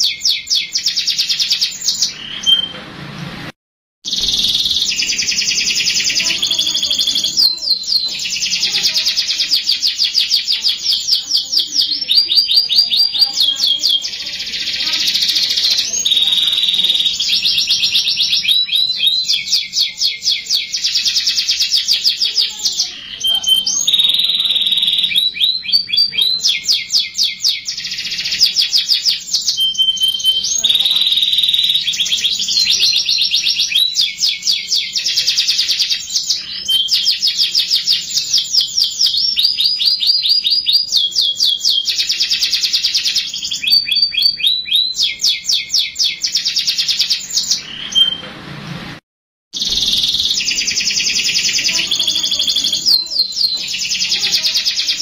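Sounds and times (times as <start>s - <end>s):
canary singing: 0.0s - 2.9s, 4.0s - 48.3s, 49.5s - 55.0s.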